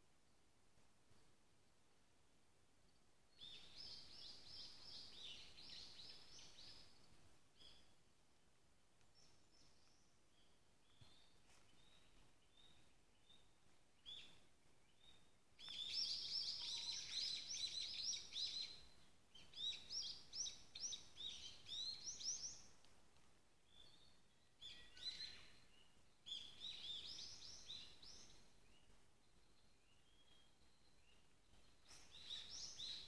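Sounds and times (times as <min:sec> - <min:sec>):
songbirds singing: 0:02.9 - 0:08.0, 0:09.0 - 0:22.9, 0:23.6 - 0:33.0.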